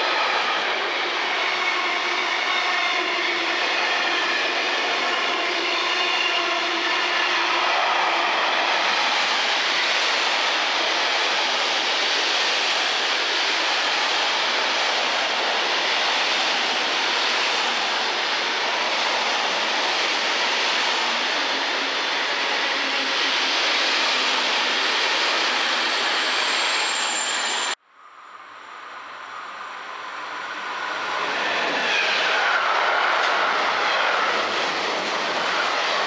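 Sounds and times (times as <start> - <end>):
train wheels rushing on rails: 0.0 - 27.8, 28.9 - 36.0.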